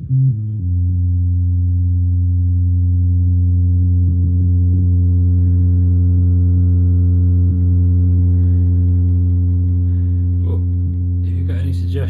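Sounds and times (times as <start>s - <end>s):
synth bass drone: 0.0s - 12.0s.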